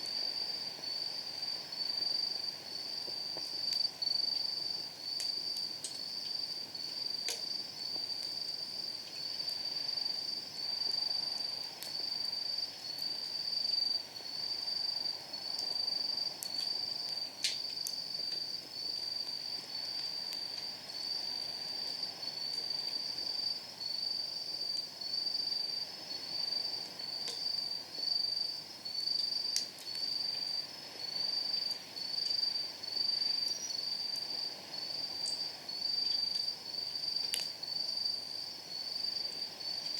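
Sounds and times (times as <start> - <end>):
firewood crackling: 0.0 - 39.9
night insects pulsing: 0.0 - 39.9.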